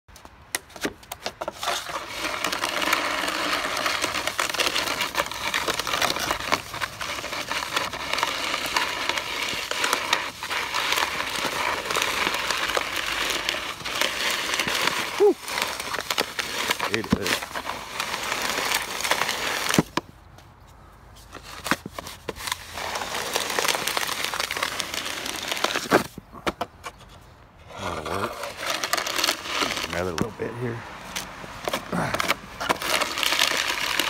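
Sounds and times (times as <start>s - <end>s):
shovel scraping concrete: 0.6s - 20.0s, 21.2s - 34.0s.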